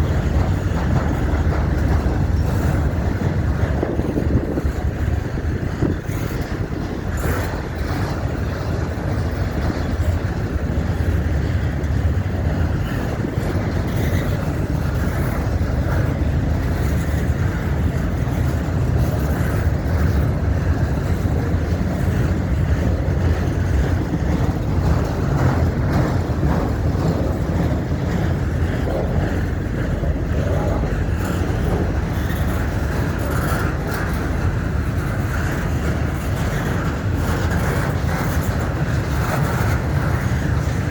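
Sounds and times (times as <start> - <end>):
faint clatter of train cars: 0.0 - 40.9
train wheels rumbling on rails: 0.0 - 40.9.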